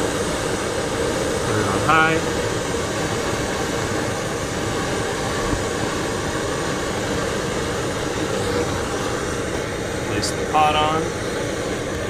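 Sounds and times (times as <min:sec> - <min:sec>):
gas stove flame hissing: 0:00.0 - 0:12.0.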